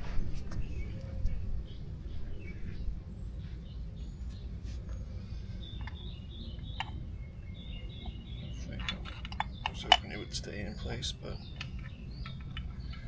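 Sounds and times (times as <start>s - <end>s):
steady low rumble: 0.0s - 13.0s
bird chirping: 0.4s - 13.0s.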